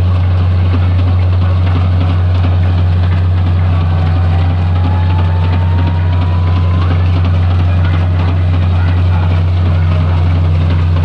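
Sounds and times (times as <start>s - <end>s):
faint rising whine: 0.0s - 11.0s
heavy engine humming: 0.0s - 11.0s.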